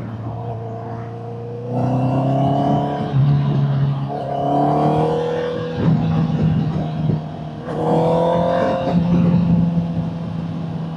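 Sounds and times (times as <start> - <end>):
motorcycle engine accelerating: 0.0 - 10.6.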